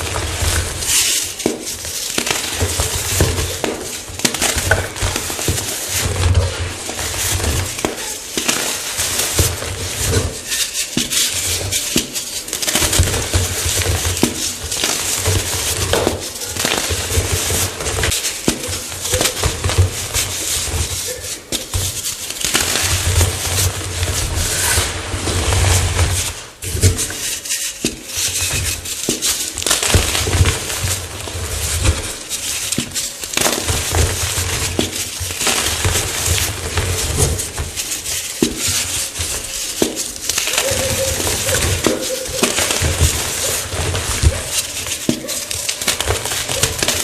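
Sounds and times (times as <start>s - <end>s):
chalk blocks crunching: 0.0s - 47.0s.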